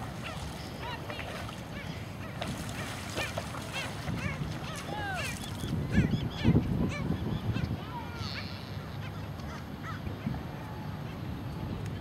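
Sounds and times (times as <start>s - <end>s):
waterbirds nasal calls: 0.0s - 10.1s.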